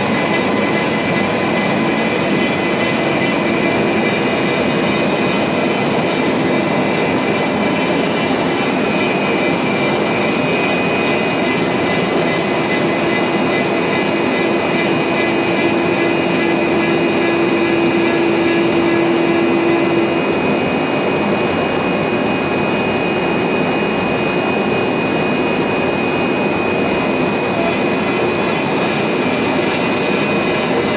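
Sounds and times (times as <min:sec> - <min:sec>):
cnc router whining hiss: 0:00.0 - 0:30.9.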